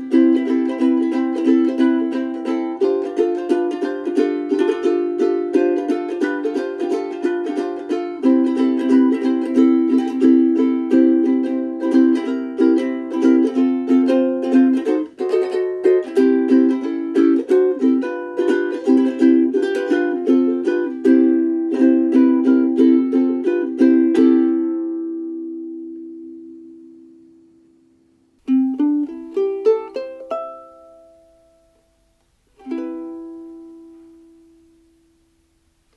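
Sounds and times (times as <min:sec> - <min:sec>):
ukulele strumming: 0:00.0 - 0:35.9.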